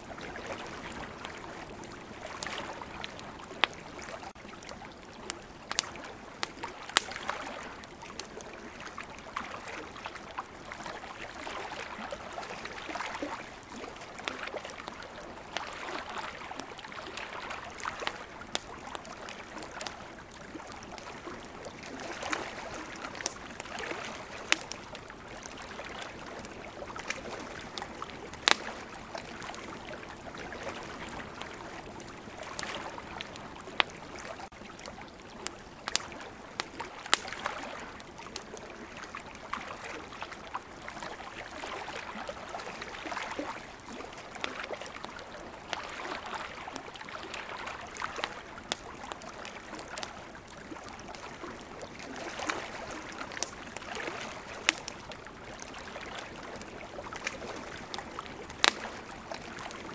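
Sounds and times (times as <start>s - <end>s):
wood campfire crackling: 0.0s - 59.9s.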